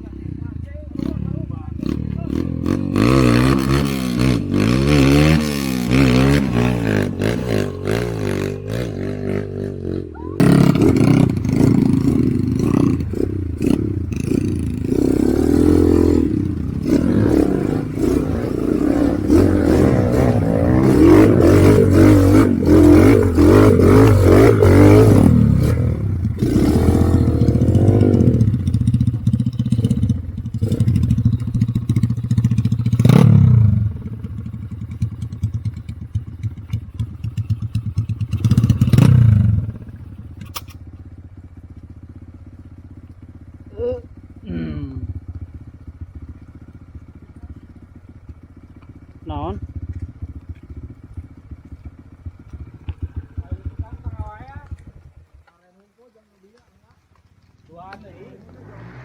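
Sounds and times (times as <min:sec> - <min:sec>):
motorcycle engine revving: 0:00.0 - 0:56.1, 0:57.1 - 0:59.0.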